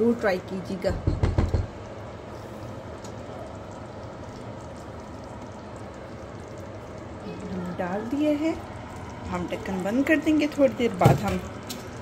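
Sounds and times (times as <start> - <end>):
sauce simmering and bubbling: 1.1 - 12.0.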